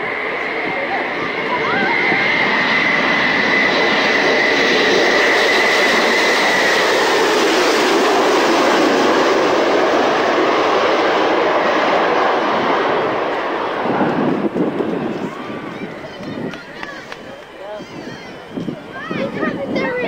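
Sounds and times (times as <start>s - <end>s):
high jet whine: 0.0s - 20.0s
jet aircraft passing overhead: 0.0s - 20.0s.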